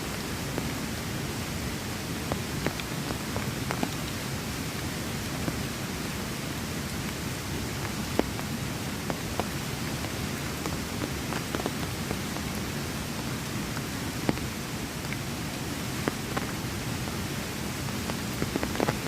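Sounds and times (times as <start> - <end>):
heavy rain: 0.0 - 19.0
sharp close raindrops: 0.0 - 19.0.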